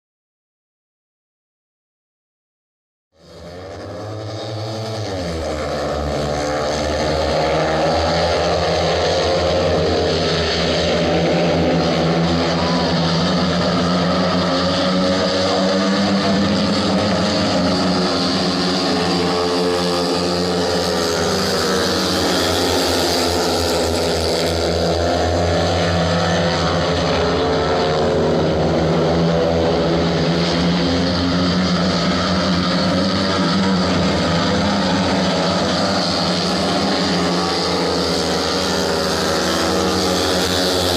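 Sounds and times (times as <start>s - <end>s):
motorcycle engines revving: 3.2s - 40.9s.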